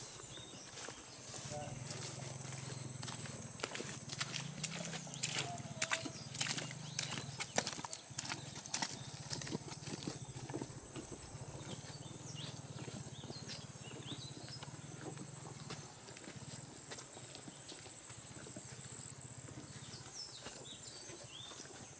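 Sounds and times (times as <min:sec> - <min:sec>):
footsteps squelching in mud: 0:00.0 - 0:21.9.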